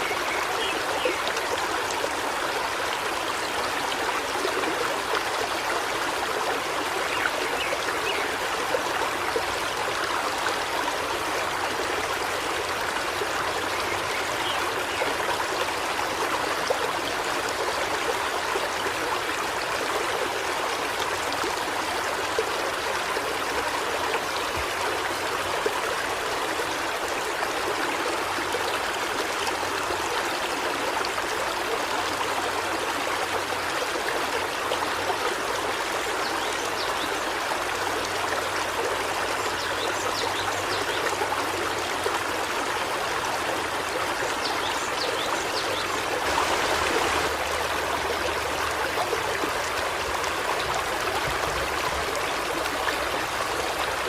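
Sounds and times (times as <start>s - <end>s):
river water rushing and babbling: 0.0s - 54.0s.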